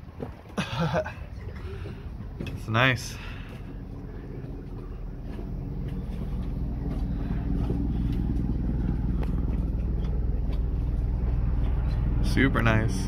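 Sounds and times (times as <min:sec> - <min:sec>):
helicopter rumble overhead: 0:00.8 - 0:13.0.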